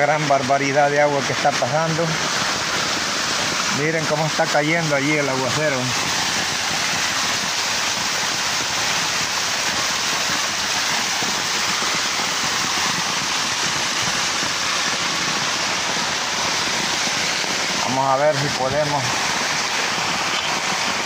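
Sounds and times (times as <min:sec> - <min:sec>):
heavy rain on concrete: 0:00.0 - 0:21.0
water pouring down a stone wall: 0:00.0 - 0:21.0.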